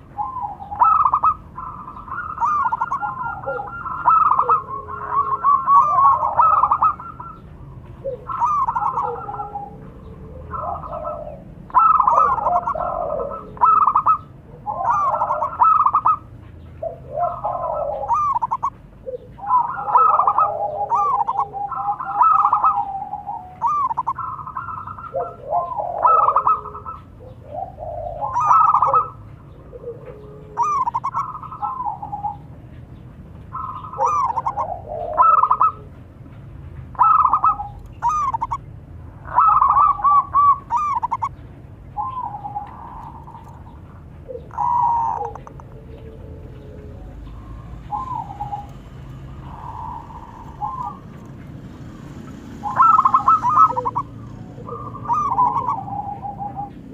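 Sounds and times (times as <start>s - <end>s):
doves cooing: 0.0s - 56.9s.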